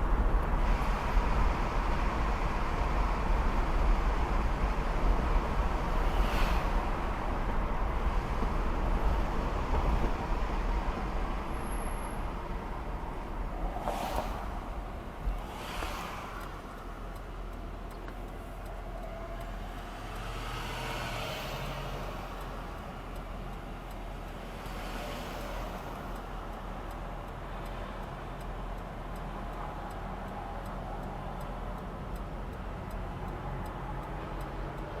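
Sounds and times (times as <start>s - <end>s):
wind and road noise in car: 0.0s - 35.0s
faint steady ticking: 6.8s - 35.0s.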